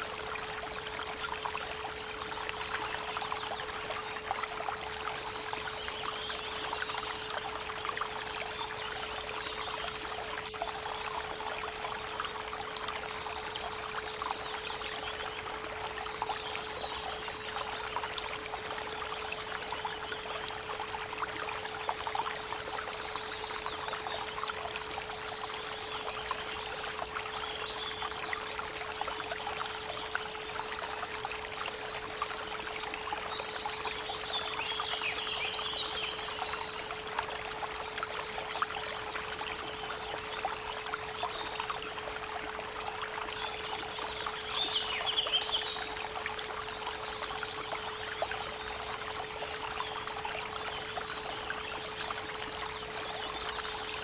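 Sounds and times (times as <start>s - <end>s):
creek water babbling: 0.0s - 54.0s.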